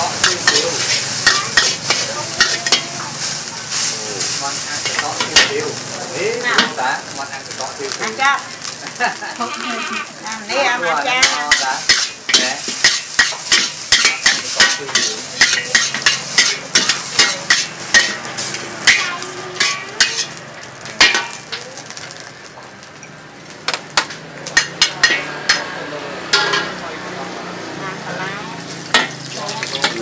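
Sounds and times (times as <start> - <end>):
metal utensils clattering on pan: 0.0 - 5.8, 6.4 - 6.9, 8.0 - 22.2, 23.7 - 26.8, 28.7 - 30.0
food frying with hiss: 0.0 - 30.0.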